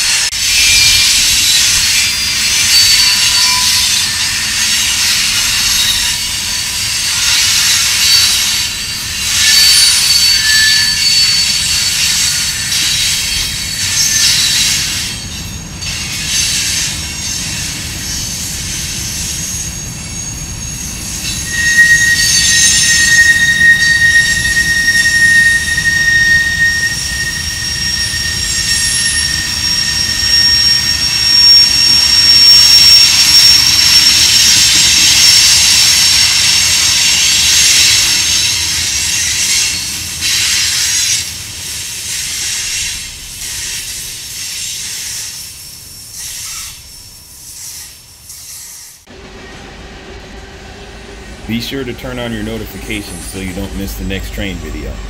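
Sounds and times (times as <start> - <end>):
high wheel squeal: 0.0 - 55.0
train wheels rumbling and clattering: 0.0 - 55.0.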